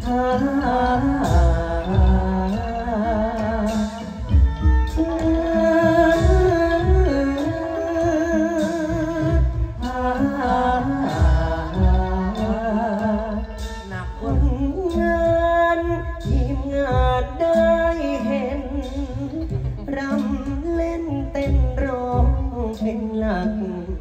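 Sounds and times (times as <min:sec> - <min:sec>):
instrumental accompaniment: 0:00.0 - 0:24.0
person singing through microphone: 0:00.0 - 0:24.0.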